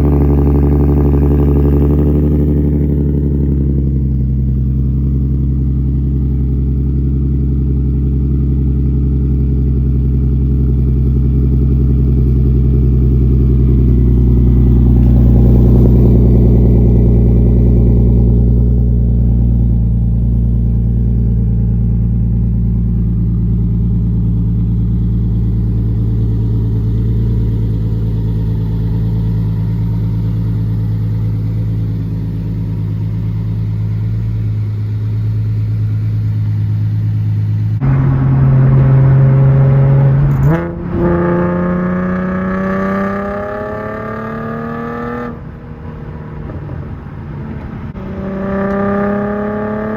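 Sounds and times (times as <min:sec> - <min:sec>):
deep car exhaust note: 0:00.0 - 0:45.4.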